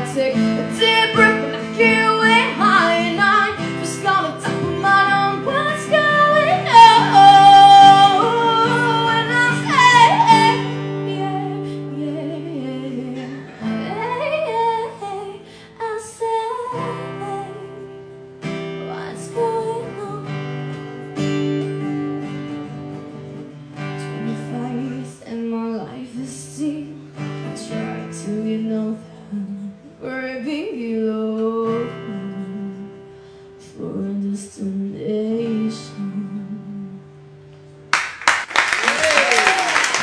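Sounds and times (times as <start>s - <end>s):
woman singing: 0.0s - 18.2s, 18.8s - 22.7s, 23.9s - 37.2s
acoustic guitar: 0.0s - 40.0s.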